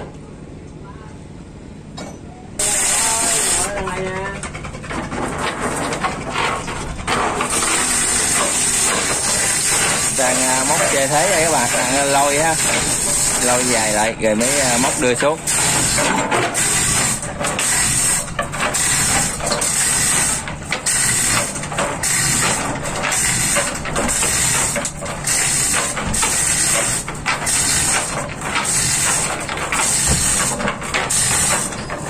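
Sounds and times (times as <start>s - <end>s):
chain hoist rattling and ratcheting: 2.6s - 32.0s.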